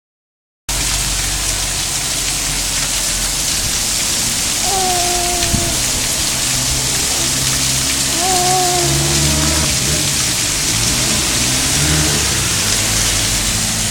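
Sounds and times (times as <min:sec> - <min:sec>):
rain falling: 0:00.7 - 0:13.9.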